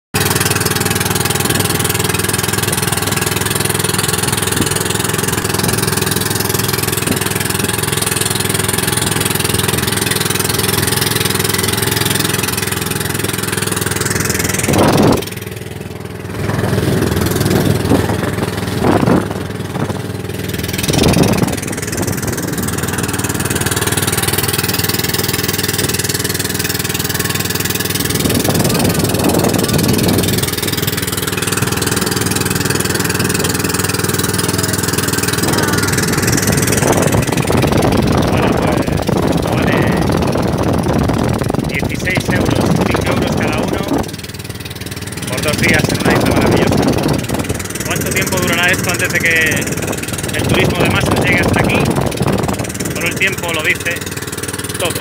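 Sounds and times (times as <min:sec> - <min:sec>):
boat engine droning: 0:00.1 - 0:55.0.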